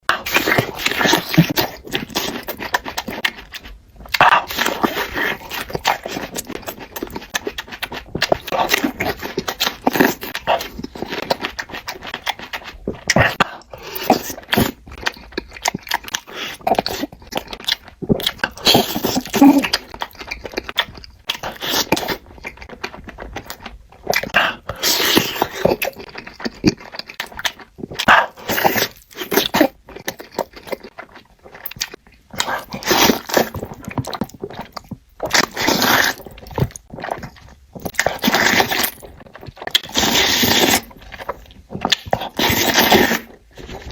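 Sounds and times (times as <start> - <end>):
chewing and mouth noises: 0.0 - 43.9.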